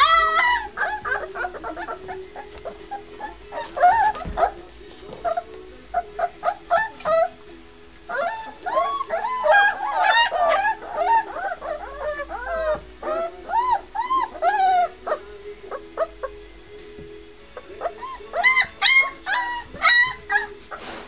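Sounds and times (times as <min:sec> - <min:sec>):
puppies whining and squealing: 0:00.0 - 0:16.4, 0:17.5 - 0:21.0.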